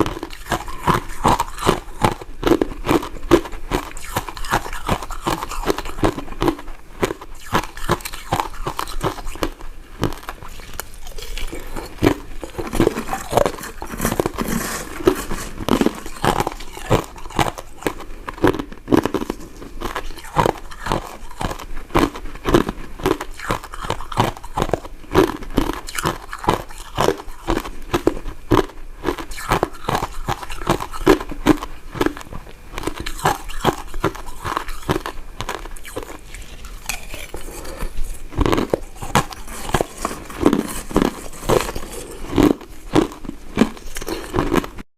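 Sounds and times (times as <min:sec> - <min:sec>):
chewing chewy sweets: 0:00.0 - 0:44.8.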